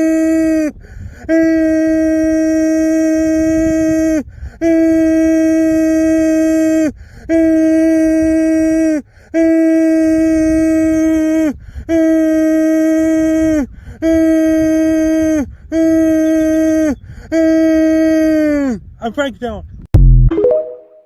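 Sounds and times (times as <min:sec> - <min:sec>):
person imitating a siren: 0:00.0 - 0:18.8.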